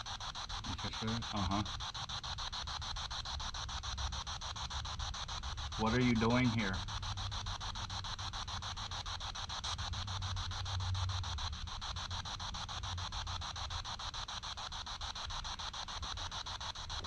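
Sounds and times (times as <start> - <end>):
pulsing radio static: 0.0 - 17.0.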